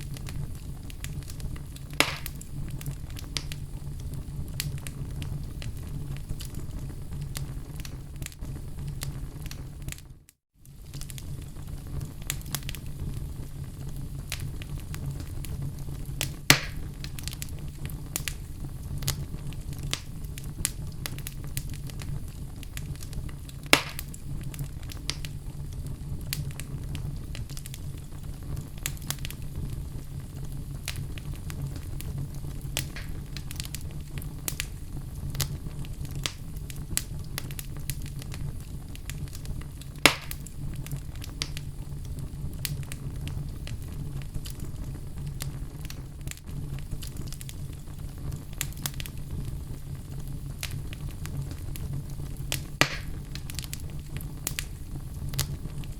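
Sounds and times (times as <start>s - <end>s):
fireplace fire crackling: 0.0s - 55.9s
loud pops of fire: 0.0s - 55.9s.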